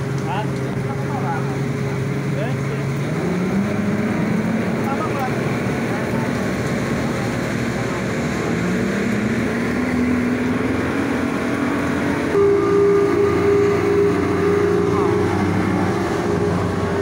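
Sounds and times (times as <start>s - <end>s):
higher engine tone: 0.0s - 17.0s
speedboat engine running: 0.0s - 17.0s.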